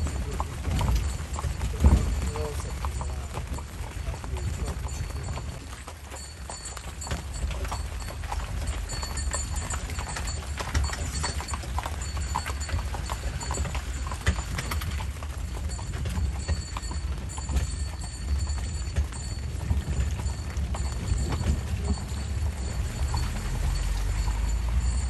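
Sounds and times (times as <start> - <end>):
horse hooves clip-clopping: 0.0 - 25.0.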